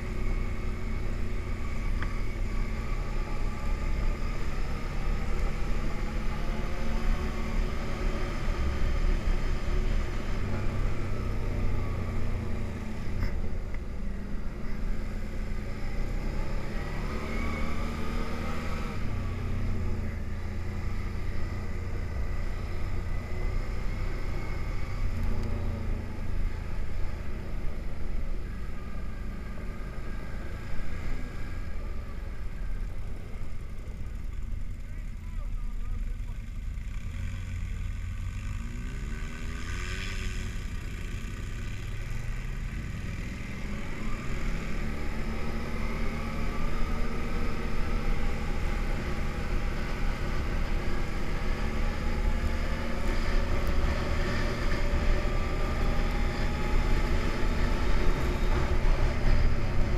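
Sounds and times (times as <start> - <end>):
atv engine revving: 0.0 - 34.8, 36.4 - 59.9.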